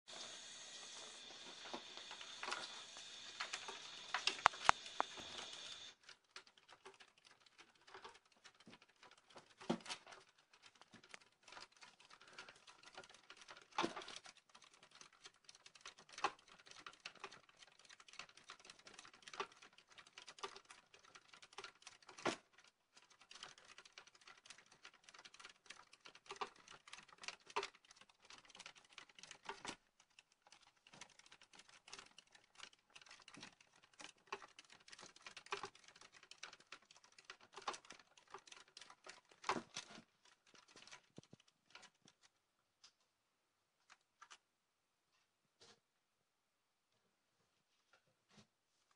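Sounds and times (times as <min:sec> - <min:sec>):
animal feet pattering in plastic wheel: 0:00.8 - 0:42.4.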